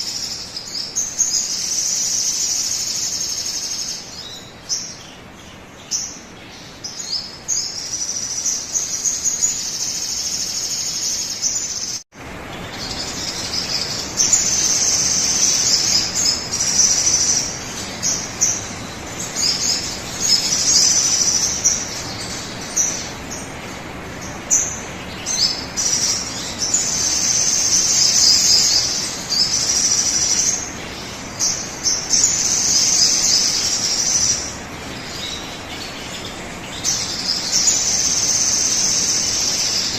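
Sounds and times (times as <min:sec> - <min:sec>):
rapid high bird chirping: 0:00.0 - 0:39.9.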